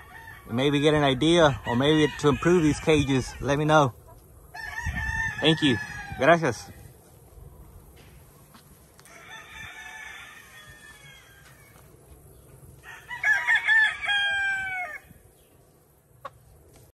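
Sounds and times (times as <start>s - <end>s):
roosters crowing: 0.0s - 7.1s, 8.7s - 15.6s.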